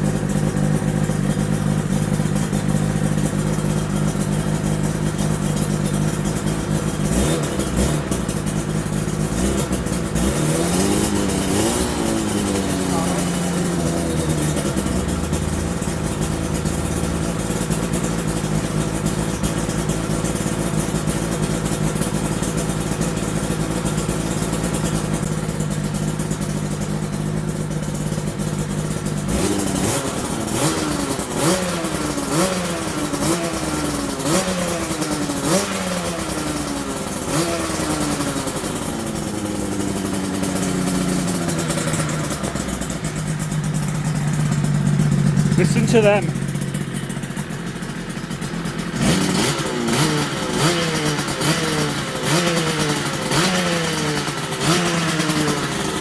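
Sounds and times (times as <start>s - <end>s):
two-stroke motorcycle engine idling: 0.0s - 56.0s.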